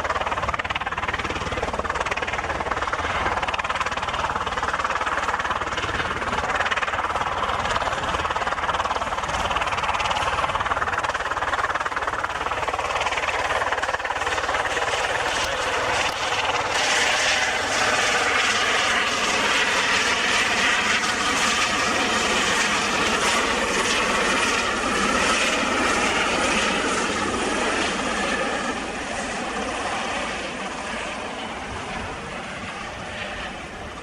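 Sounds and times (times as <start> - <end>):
helicopter rotor and turbine: 0.0 - 34.0.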